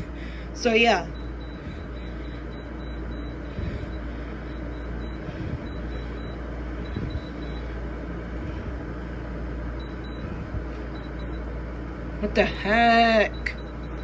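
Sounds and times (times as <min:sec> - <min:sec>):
air conditioner fan and compressor hum: 0:00.0 - 0:14.0.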